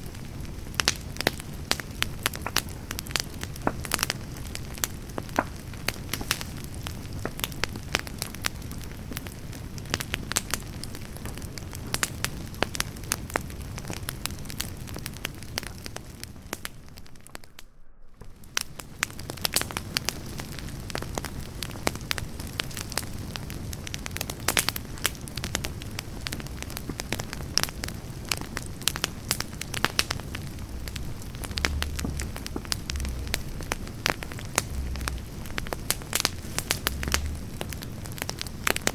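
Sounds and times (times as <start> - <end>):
campfire crackling and popping: 0.0 - 38.9
low rush of flame: 0.1 - 38.9.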